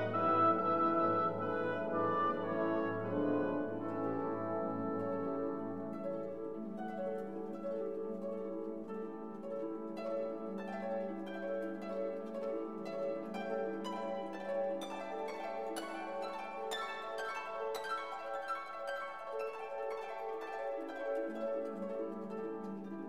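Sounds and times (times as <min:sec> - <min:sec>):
plucked harp-like string music: 0:00.0 - 0:23.0.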